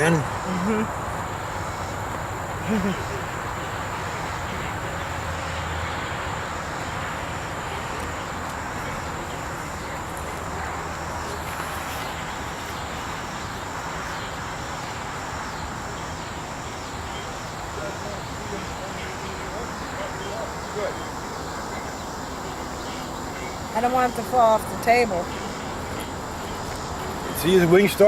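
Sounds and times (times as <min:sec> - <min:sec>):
insect chorus trilling: 0:00.0 - 0:28.0
rushing background noise: 0:00.0 - 0:28.0.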